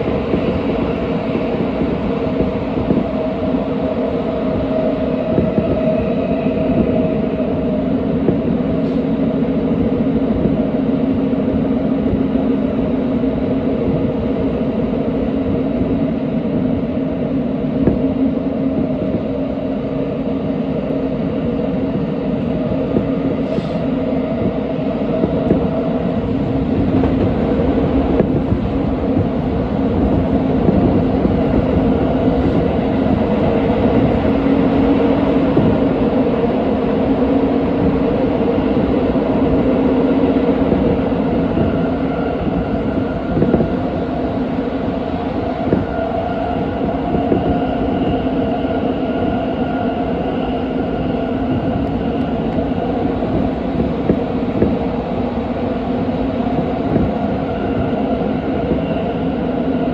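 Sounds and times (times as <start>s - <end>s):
steady train hum: 0.0s - 59.9s
train wheels rumbling on rail: 0.0s - 59.9s.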